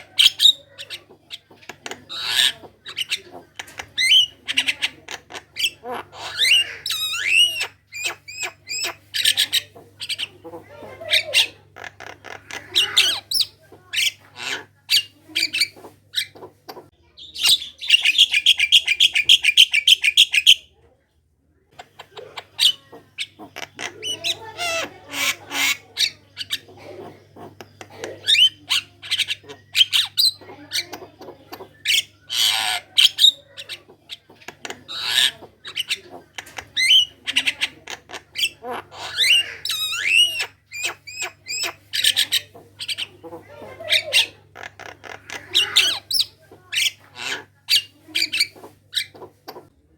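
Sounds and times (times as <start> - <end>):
bird chattering song: 0.0 - 20.8, 21.8 - 49.7.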